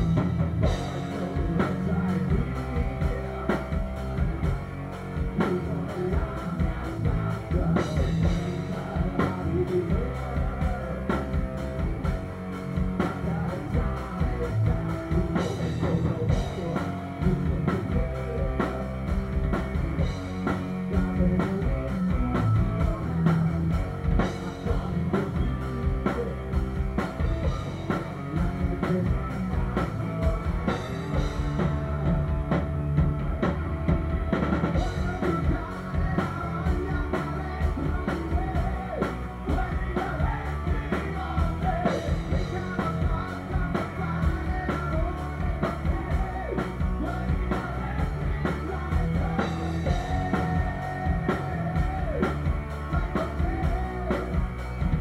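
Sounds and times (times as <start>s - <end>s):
person singing: 0.0s - 4.6s, 5.3s - 11.8s, 13.0s - 18.9s, 20.7s - 32.3s, 34.5s - 55.0s
live rock band: 0.0s - 55.0s.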